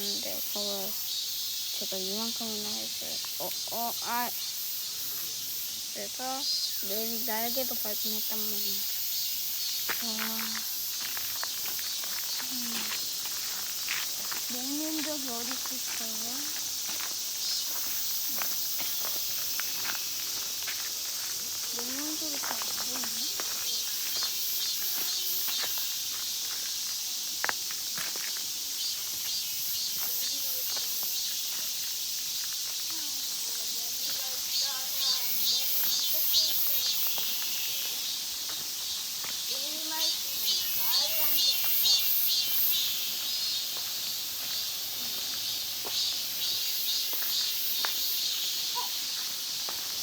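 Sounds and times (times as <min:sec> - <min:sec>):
cicadas shrilling: 0:00.0 - 0:50.0
footsteps on path: 0:09.6 - 0:50.0.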